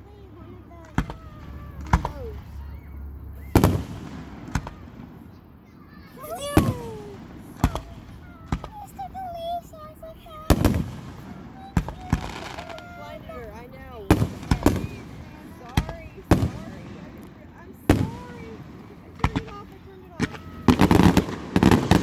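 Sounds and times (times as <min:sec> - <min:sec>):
fireworks booming: 0:00.1 - 0:22.0.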